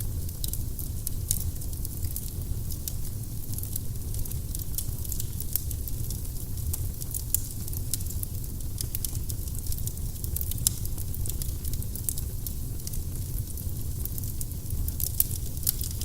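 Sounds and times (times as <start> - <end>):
firewood crackling and popping: 0.0 - 16.0
low steady fire rumble: 0.0 - 16.0.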